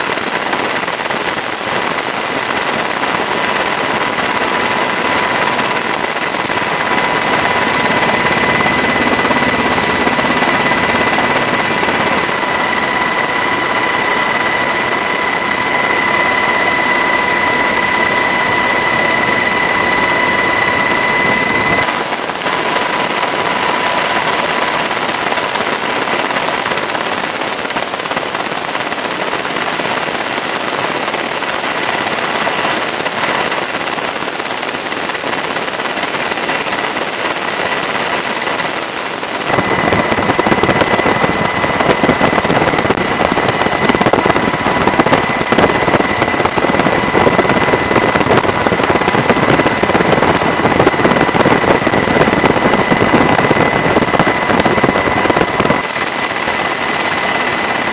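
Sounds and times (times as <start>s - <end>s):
helicopter rotor and engine rush: 0.0s - 57.9s
high whine: 0.0s - 57.9s.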